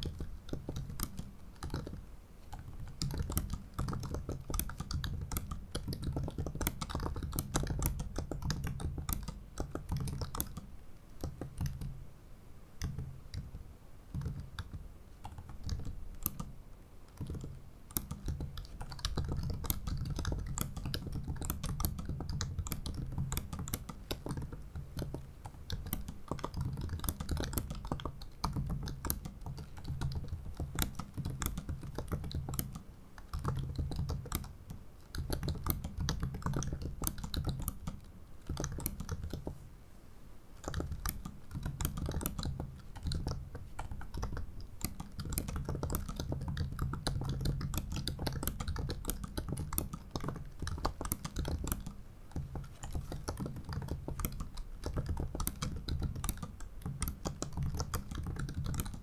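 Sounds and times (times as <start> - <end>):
keyboard typing clicks: 0.0 - 12.0, 12.8 - 39.6, 40.6 - 59.0.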